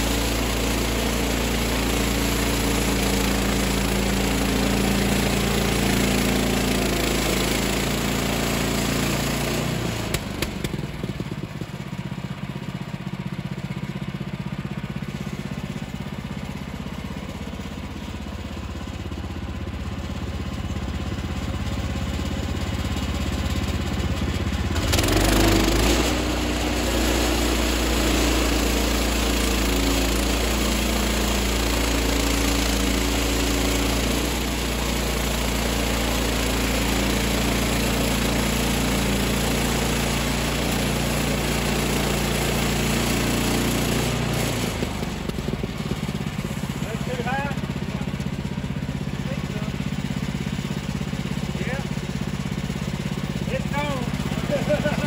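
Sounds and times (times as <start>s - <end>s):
gasoline engine running: 0.0s - 55.0s.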